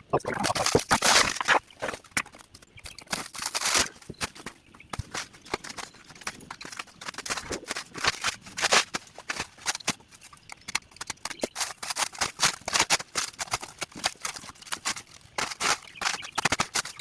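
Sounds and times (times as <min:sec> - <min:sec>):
plastic packaging crinkling: 0:00.3 - 0:17.0.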